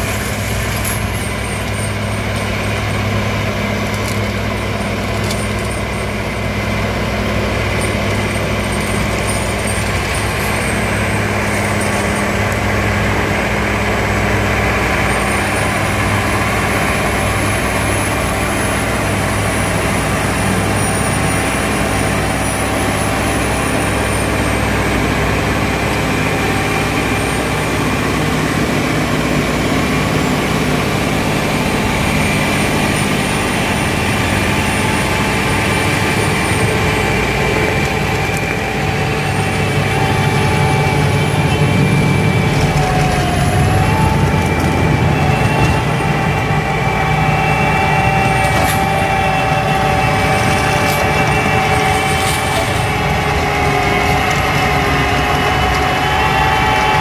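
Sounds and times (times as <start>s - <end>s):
rotary tiller churning soil: 0.0s - 57.0s
tractor diesel engine at high revs: 0.0s - 57.0s.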